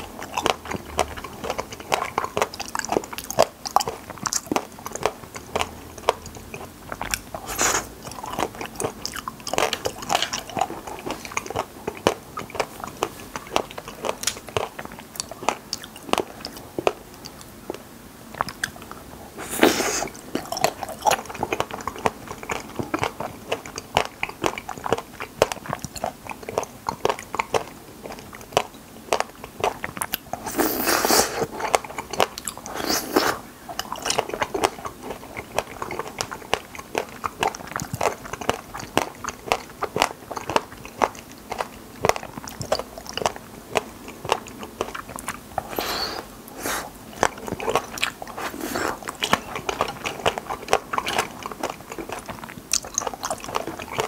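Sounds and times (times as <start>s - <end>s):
chewing mouth clicks: 0.0s - 19.0s, 19.6s - 54.0s.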